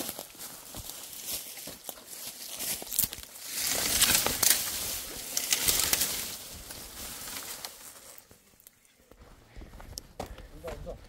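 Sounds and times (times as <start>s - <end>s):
dry brush rustling and crackling: 0.0s - 9.8s.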